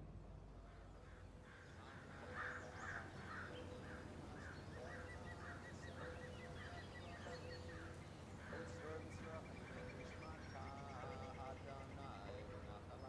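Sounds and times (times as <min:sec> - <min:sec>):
birds calling: 0:00.0 - 0:13.0
low background noise: 0:00.0 - 0:13.0.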